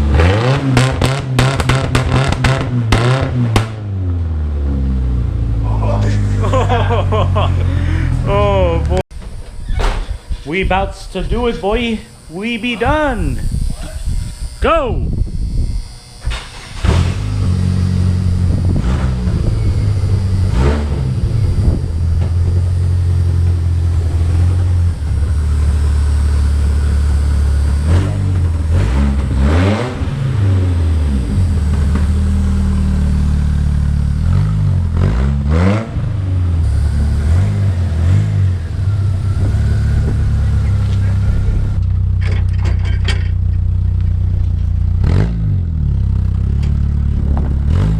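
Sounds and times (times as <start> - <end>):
pickup engine revving: 0.0 - 9.0, 15.2 - 47.9.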